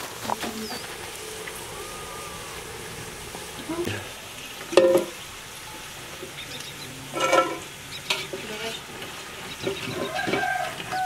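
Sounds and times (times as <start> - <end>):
fries sizzling in hot oil: 0.0 - 11.0
metal skimmer scraping pot: 0.0 - 11.0.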